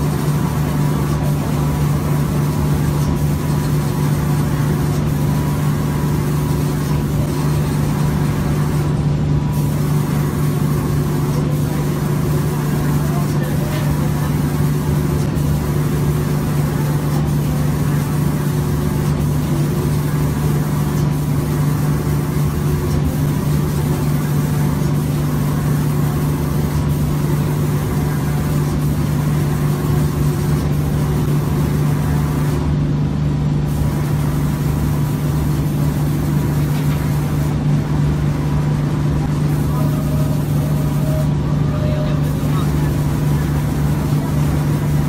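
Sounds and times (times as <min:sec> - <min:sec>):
spraying machine humming: 0:00.0 - 0:32.7, 0:33.6 - 0:45.0.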